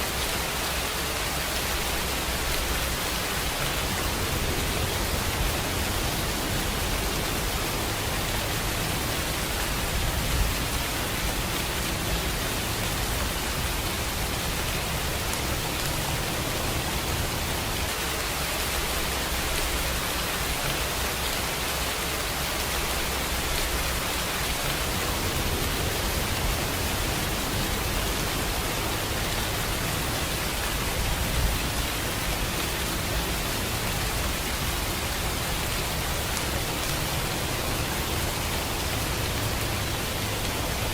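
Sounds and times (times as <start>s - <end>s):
dense rain hissing: 0.0s - 40.9s.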